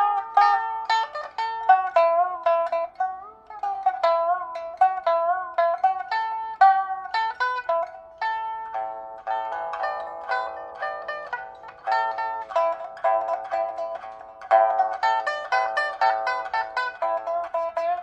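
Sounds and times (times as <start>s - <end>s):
solo pipa plucked notes: 0.0s - 18.0s.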